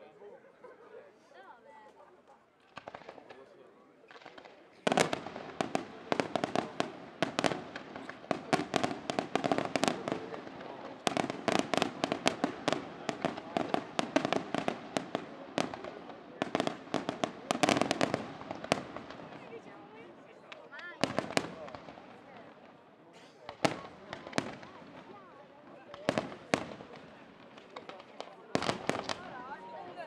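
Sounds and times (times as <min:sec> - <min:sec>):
fireworks bangs and crackles: 0:02.6 - 0:30.0.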